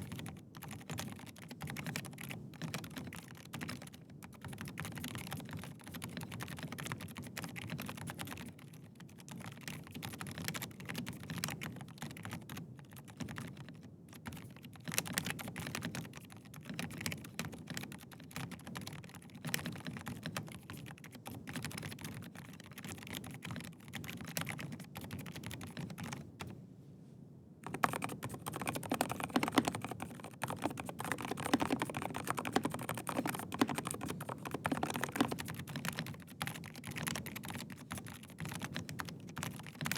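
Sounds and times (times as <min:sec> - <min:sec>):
mechanical keyboard typing: 0:00.0 - 0:26.5, 0:27.6 - 0:39.9.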